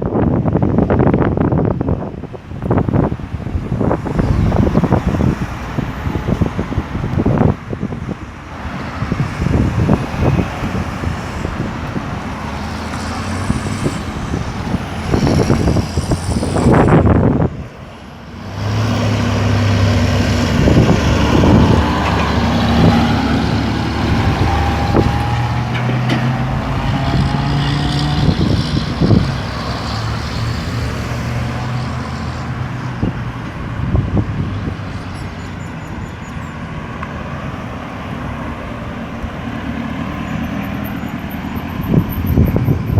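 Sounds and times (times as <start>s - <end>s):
road traffic passing: 0.0s - 42.9s
heavy vehicle accelerating: 0.7s - 42.9s.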